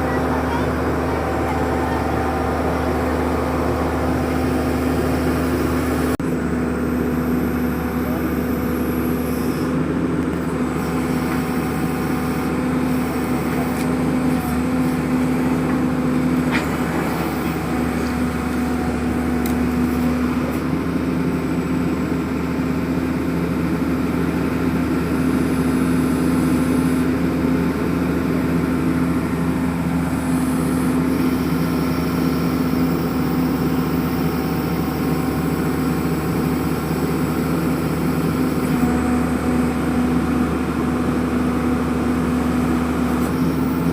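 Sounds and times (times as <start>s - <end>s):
drilling rig engine running: 0.0s - 43.9s.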